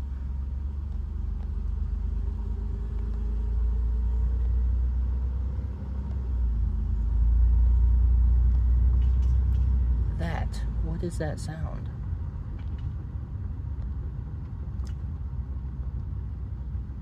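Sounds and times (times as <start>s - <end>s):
car driving rumble inside cabin: 0.0s - 17.0s.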